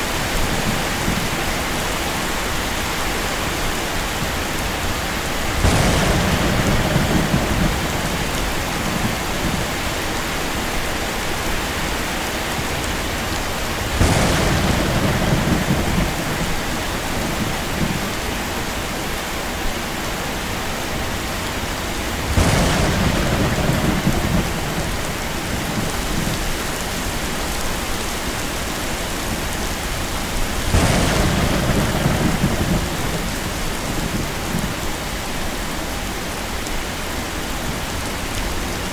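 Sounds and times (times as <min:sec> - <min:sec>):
heavy rain: 0:00.0 - 0:38.9
thunderclaps rumbling: 0:00.0 - 0:38.9.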